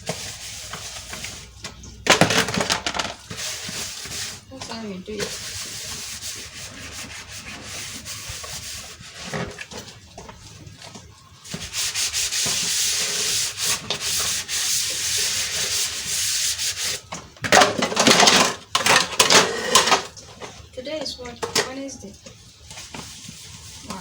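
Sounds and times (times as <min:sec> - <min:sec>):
sponge scrubbing dishes: 0:00.0 - 0:24.0.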